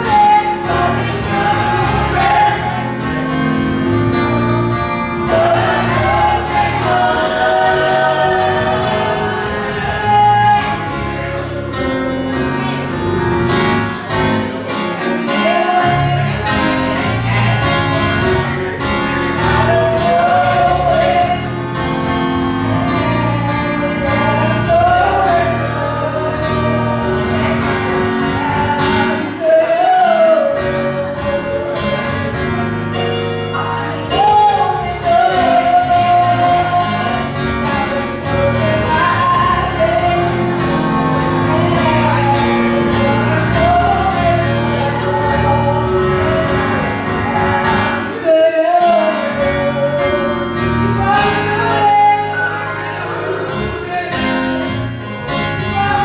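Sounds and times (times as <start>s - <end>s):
choir singing: 0.0s - 56.0s
lead voice singing gospel: 0.0s - 56.0s
sustained chords accompaniment: 0.0s - 56.0s.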